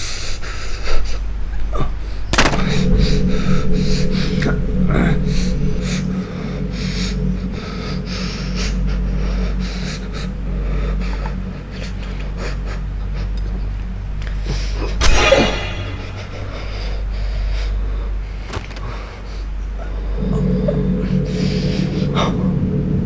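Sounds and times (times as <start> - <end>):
steady low drone: 0.0 - 23.0.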